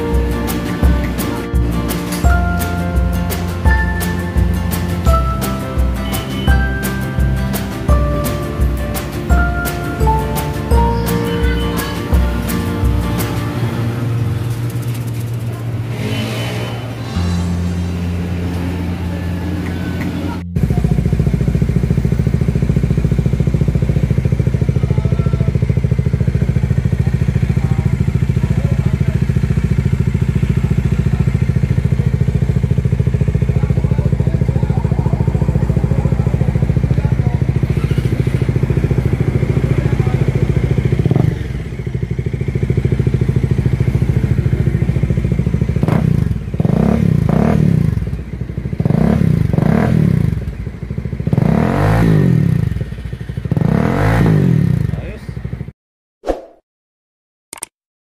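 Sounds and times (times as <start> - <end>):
motorcycle engine idling and revving: 0.0 - 55.8.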